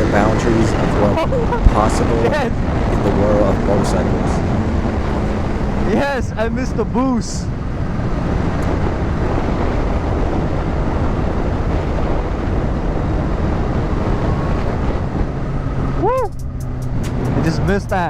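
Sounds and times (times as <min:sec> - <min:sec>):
motorcycle engine accelerating: 0:00.0 - 0:18.0
wind noise on microphone: 0:00.0 - 0:18.0.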